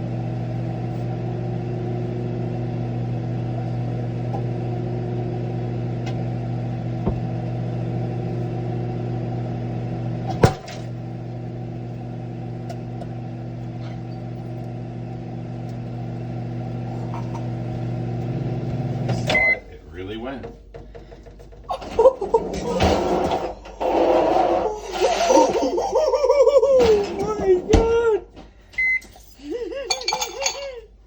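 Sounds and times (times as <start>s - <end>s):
microwave oven humming: 0.0s - 31.0s.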